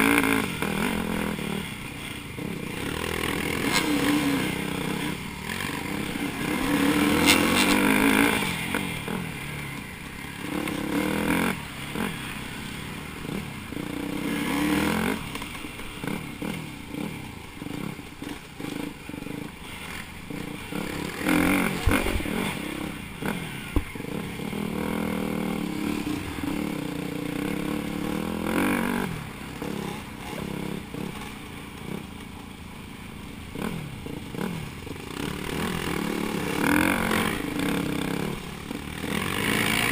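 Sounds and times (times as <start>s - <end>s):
dirt bike engine revving: 0.0s - 32.2s, 33.4s - 39.9s
other dirt bikes running: 0.0s - 39.9s.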